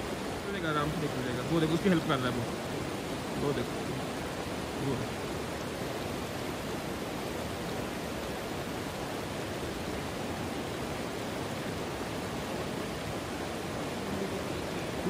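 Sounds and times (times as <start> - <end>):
fast-flowing mountain stream: 0.0 - 15.0.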